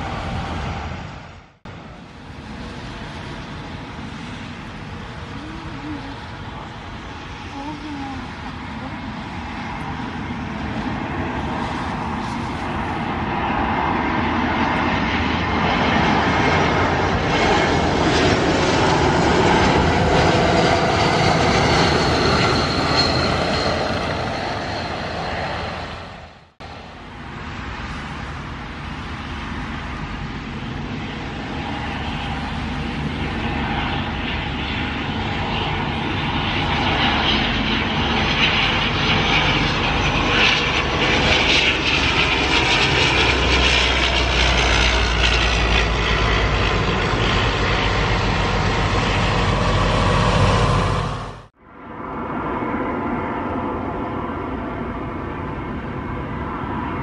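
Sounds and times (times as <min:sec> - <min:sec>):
jet airliner passing low: 0:00.0 - 0:57.0
turboprop plane approaching: 0:00.0 - 0:57.0.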